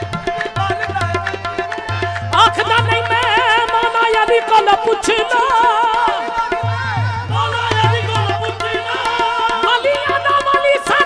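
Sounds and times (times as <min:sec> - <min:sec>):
man singing melismatic runs: 0:00.0 - 0:11.0
tabla rhythm: 0:00.0 - 0:11.0.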